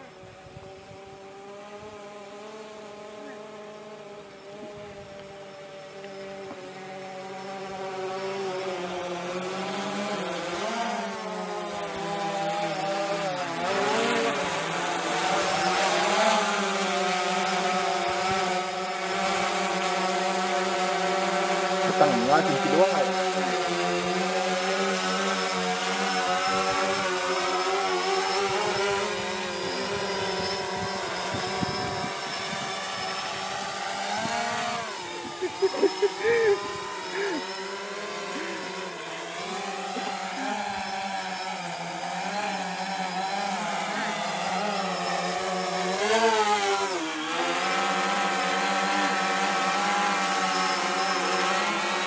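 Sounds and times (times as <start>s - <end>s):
drone propellers buzzing: 0.0s - 52.0s.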